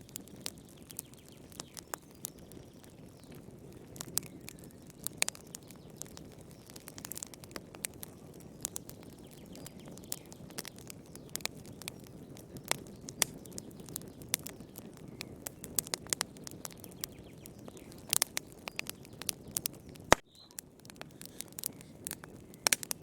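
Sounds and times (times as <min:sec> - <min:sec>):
low rush of flames: 0:00.0 - 0:23.0
wood fire pops and crackles: 0:00.0 - 0:23.0.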